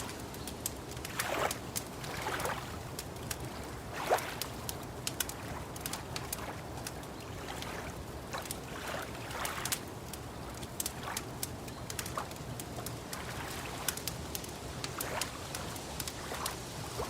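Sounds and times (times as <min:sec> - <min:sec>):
water lapping: 0:00.0 - 0:17.0
wood fire crackling: 0:00.0 - 0:17.0.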